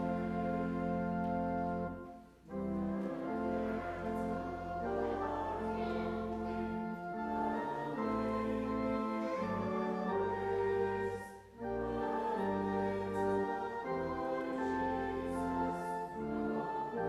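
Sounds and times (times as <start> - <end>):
instrumental hymn music: 0.0 - 17.0.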